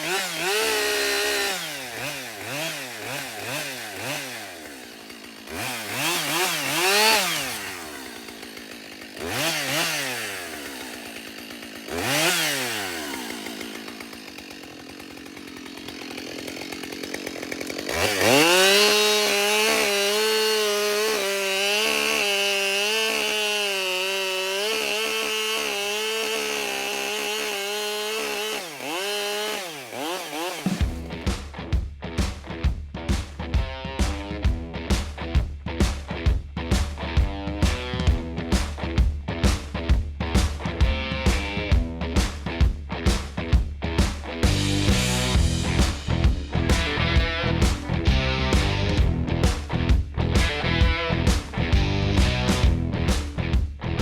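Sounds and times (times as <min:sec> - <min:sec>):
chainsaw revving and cutting: 0:00.0 - 0:32.6, 0:33.4 - 0:54.0.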